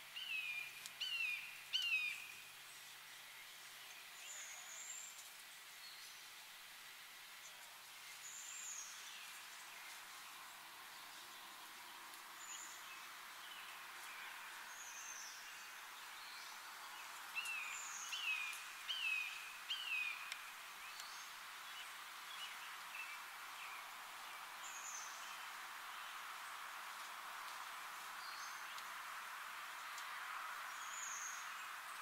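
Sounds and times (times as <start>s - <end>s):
outdoor hiss: 0.0s - 32.0s.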